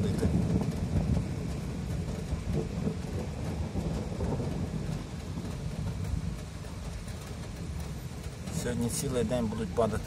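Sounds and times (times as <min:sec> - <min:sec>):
low continuous rumble: 0:00.0 - 0:10.0
steady rain falling: 0:00.0 - 0:10.0.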